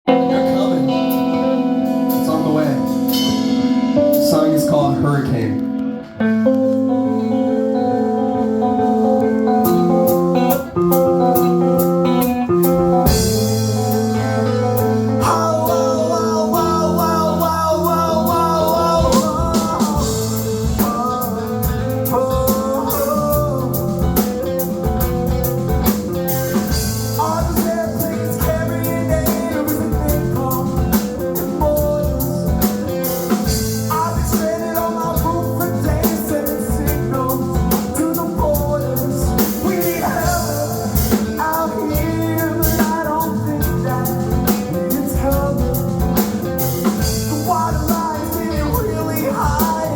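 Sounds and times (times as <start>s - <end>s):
guitar: 0.0s - 49.9s
person singing: 0.1s - 49.9s
drum-kit beat: 8.5s - 49.9s.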